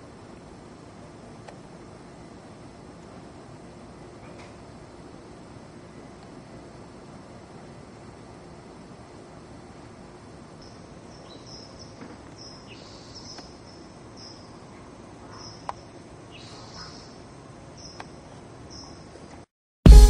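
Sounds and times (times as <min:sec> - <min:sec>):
crickets chirping: 0:00.0 - 0:19.2
steady hiss: 0:00.0 - 0:20.0.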